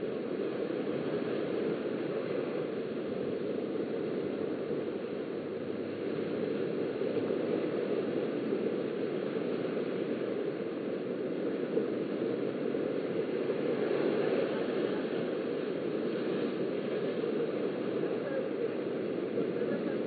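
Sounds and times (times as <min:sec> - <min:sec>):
small waves rushing on shore: 0:00.0 - 0:20.0.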